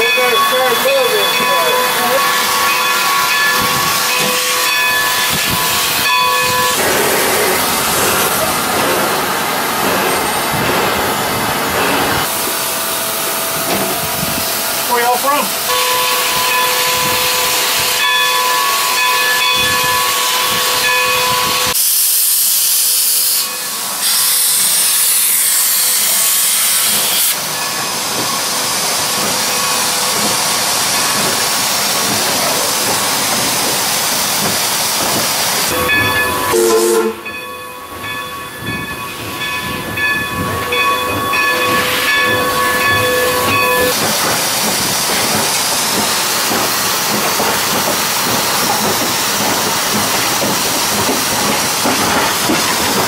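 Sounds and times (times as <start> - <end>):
high-pitched rush of steam: 0.0 - 37.5, 39.3 - 53.0
steam hissing: 1.0 - 14.8, 19.8 - 37.1, 41.7 - 53.0.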